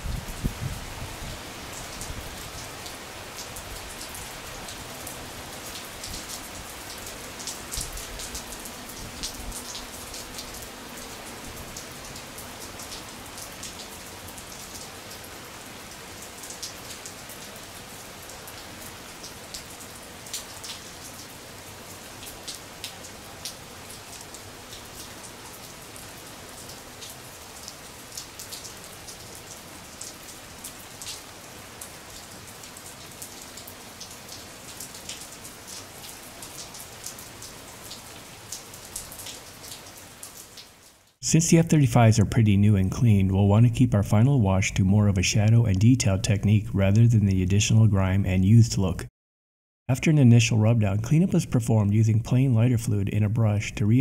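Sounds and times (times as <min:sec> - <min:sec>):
rain falling on a patio: 0:00.0 - 0:47.4.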